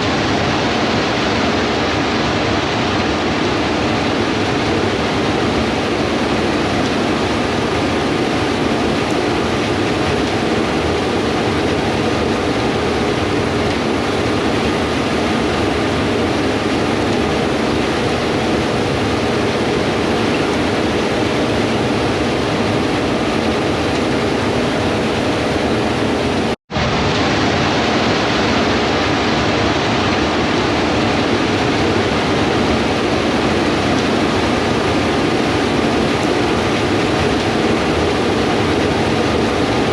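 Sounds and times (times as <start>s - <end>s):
combine harvester running: 0.0s - 39.9s
wind rush on microphone: 0.0s - 39.9s.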